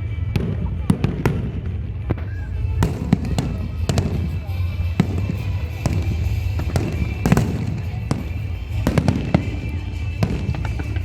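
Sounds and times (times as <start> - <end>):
fireworks bangs: 0.0 - 11.0
low rumble of fireworks show: 0.0 - 11.0.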